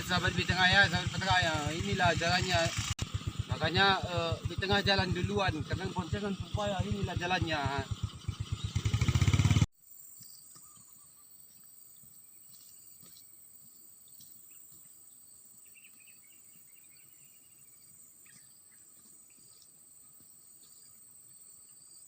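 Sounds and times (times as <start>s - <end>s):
insects buzzing and trilling: 0.0s - 22.0s.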